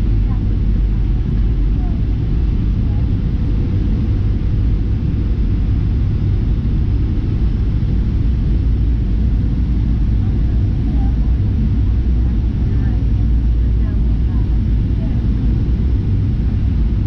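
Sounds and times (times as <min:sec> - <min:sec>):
faint steady hum: 0:00.0 - 0:17.0
jet engine roar in cabin: 0:00.0 - 0:17.0.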